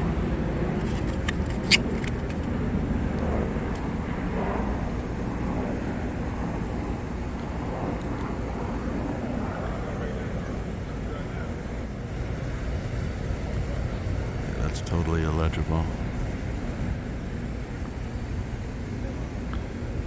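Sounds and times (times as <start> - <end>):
city street traffic hum: 0.0 - 20.0.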